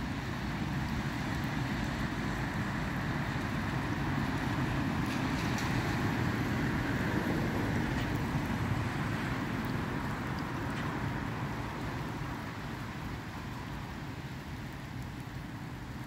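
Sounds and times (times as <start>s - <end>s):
cars passing on a wet road: 0.0s - 16.0s.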